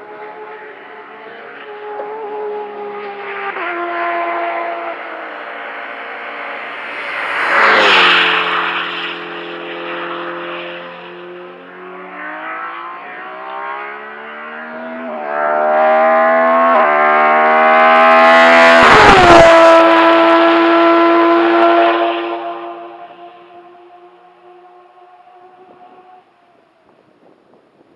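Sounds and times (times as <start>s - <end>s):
race car engine accelerating: 0.0s - 26.5s.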